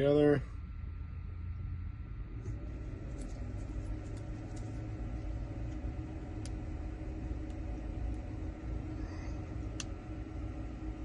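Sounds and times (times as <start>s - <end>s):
faint hum: 0.0s - 11.0s
low mechanical rumble: 0.0s - 11.0s.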